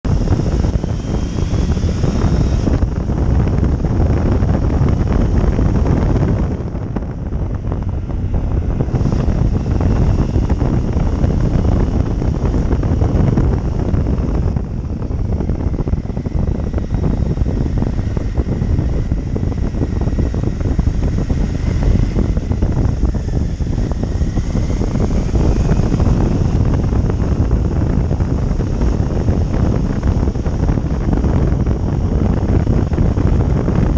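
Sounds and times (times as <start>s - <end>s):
motorcycle engine: 0.0s - 33.9s
wind buffeting microphone: 0.0s - 33.9s.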